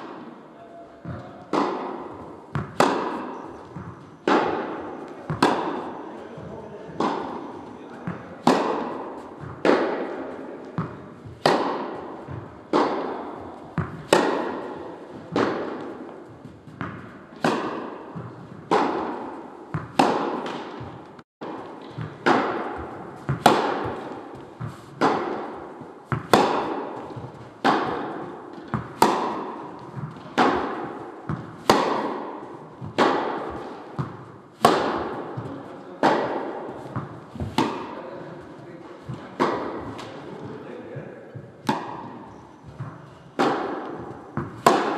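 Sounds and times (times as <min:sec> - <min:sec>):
racket striking tennis ball: 0:00.0 - 0:00.4, 0:01.0 - 0:40.6, 0:41.3 - 0:44.9
tennis ball bouncing: 0:01.0 - 0:40.5, 0:41.4 - 0:44.9.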